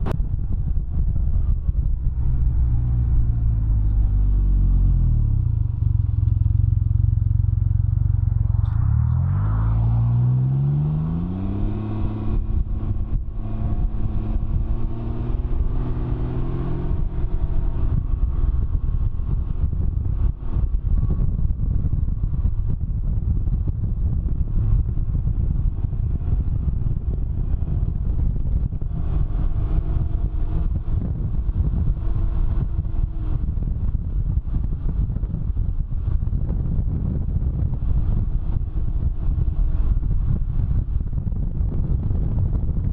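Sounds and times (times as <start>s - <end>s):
three-wheeler engine accelerating: 0.0s - 42.9s
wind rumble on microphone: 0.0s - 42.9s.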